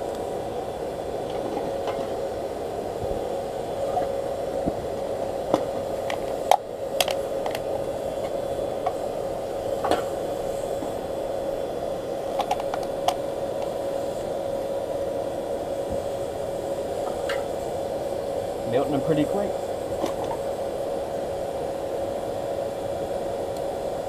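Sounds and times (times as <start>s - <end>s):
furnace blower rushing: 0.0s - 24.0s.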